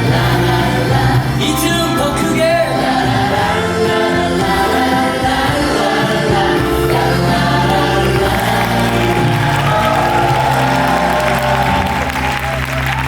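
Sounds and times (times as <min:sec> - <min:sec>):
group of voices singing: 0:00.0 - 0:12.6
live band accompaniment: 0:00.0 - 0:13.0.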